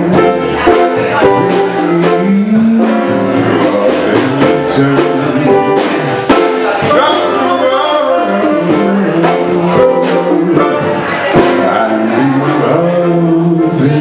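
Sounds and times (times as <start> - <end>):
jazz band playing: 0.0 - 14.0.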